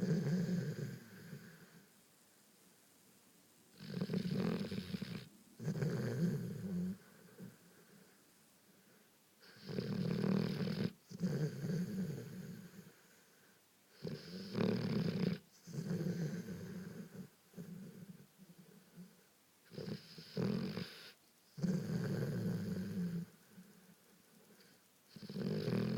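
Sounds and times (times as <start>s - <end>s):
dog snoring: 0.0s - 1.9s, 3.7s - 8.0s, 9.4s - 13.2s, 13.9s - 23.9s, 24.6s - 25.9s.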